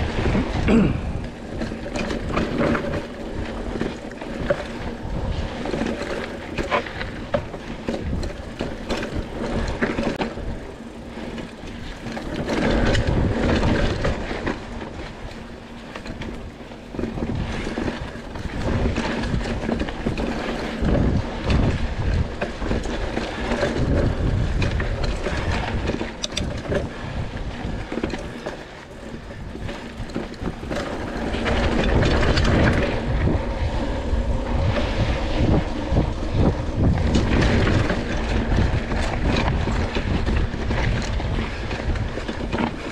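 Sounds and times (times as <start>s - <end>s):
bike rattling and knocking: 0.0s - 42.9s
bike tyres rolling over dirt: 0.0s - 42.9s
wind noise on microphone: 0.0s - 42.9s.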